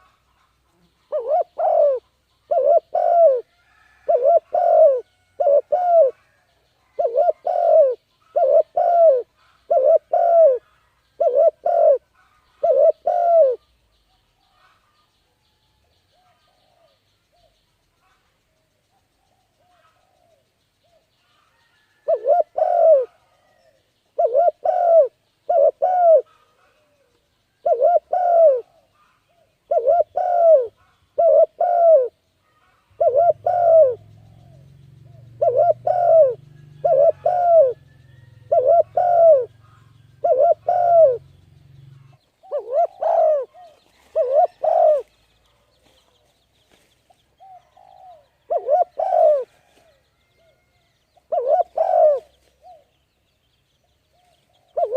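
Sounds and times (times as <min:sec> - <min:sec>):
bird calling: 0:00.0 - 0:15.2, 0:16.0 - 0:54.9.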